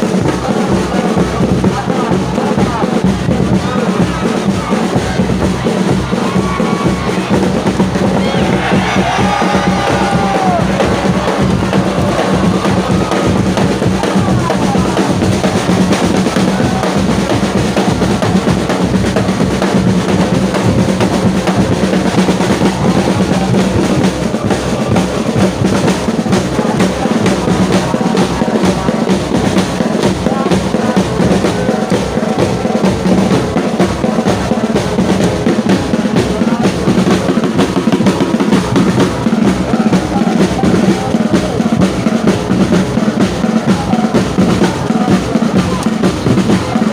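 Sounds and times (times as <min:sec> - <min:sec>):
drums beaten in fast rhythm: 0:00.0 - 0:46.9.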